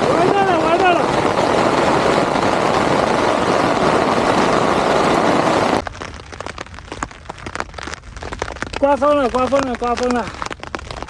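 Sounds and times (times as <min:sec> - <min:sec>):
rain drops ticking: 0:00.0 - 0:04.9, 0:05.5 - 0:11.0
hail and wind roaring: 0:00.0 - 0:11.0.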